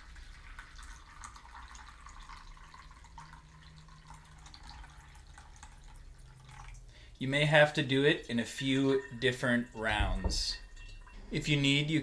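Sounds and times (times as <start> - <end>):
coffee trickling into basket: 0.0 - 12.0.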